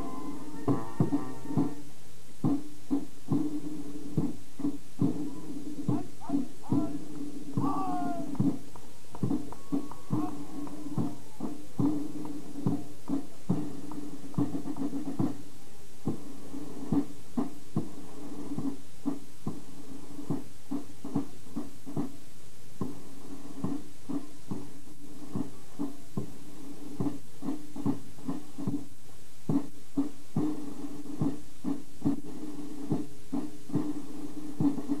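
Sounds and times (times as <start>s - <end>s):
marching drum beating: 0.0s - 22.2s, 22.8s - 35.0s.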